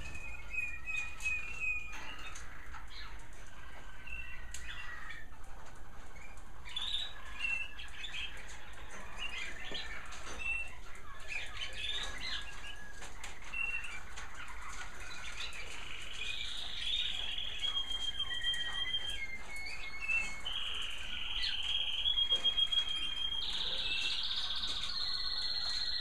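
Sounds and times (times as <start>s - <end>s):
canaries singing: 0.0s - 26.0s.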